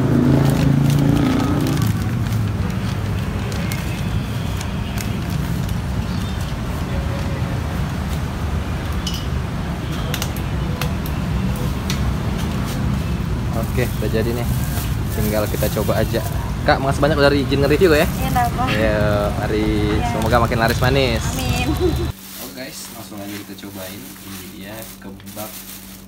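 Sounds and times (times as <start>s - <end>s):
nearby engine humming: 0.0s - 22.2s
low rumble of passing vehicles: 0.0s - 26.0s.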